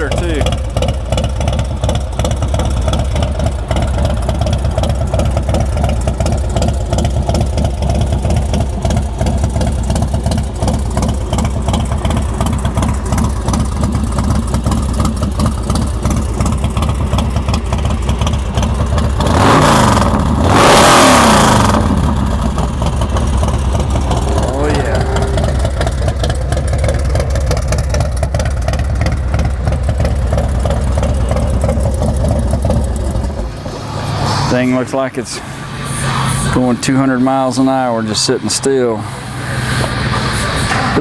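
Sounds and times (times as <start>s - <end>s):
motorcycle engine idling: 0.0s - 41.0s
motorcycle engine revving: 0.0s - 41.0s.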